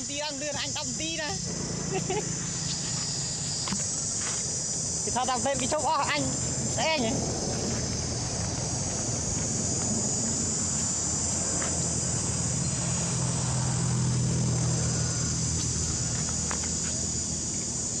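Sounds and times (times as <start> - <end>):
insects droning: 0.0 - 18.0
low motor hum: 0.2 - 18.0.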